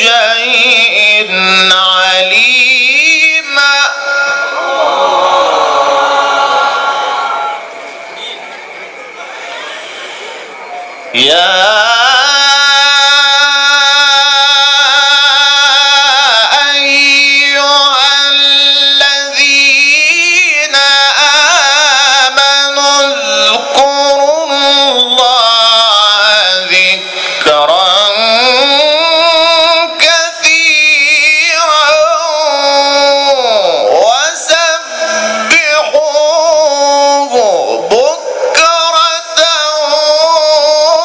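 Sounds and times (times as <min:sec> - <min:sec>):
man reciting melodically: 0:00.0 - 0:05.9, 0:11.1 - 0:41.0.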